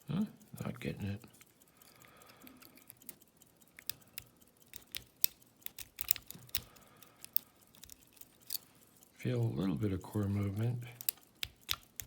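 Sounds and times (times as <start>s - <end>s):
lock pick raking clicks: 0.0s - 9.3s, 10.2s - 12.0s.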